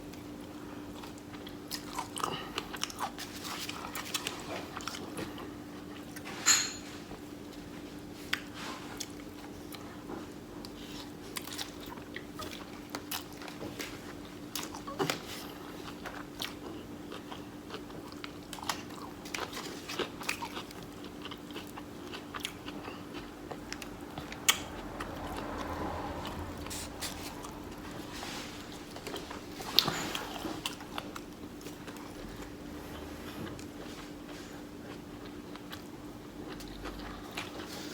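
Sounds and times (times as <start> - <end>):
person chewing: 0.1 - 6.2, 8.2 - 37.9.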